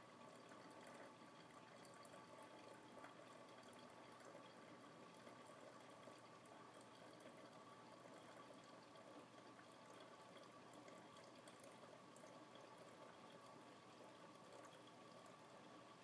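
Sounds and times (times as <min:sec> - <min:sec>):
coffee trickling and dripping: 0:00.0 - 0:16.0.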